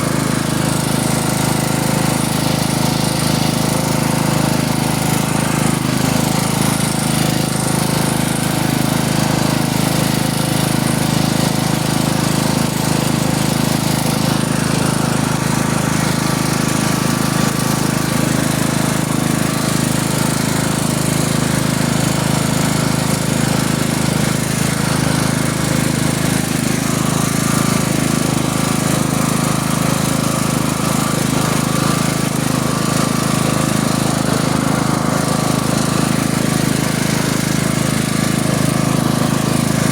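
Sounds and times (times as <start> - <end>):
engine chugging steadily: 0.0 - 39.9.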